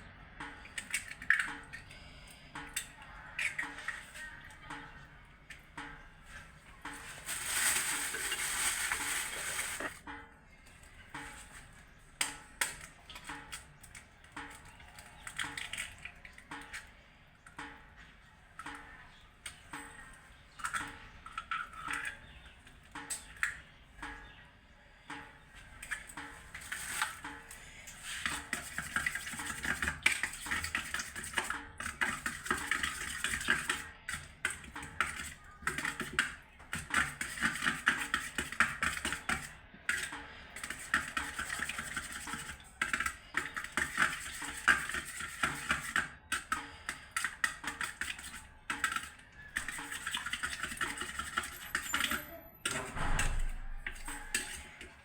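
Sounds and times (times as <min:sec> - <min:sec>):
utensil stirring in a bowl: 0:02.4 - 0:10.0, 0:10.8 - 0:24.4, 0:25.1 - 0:55.0.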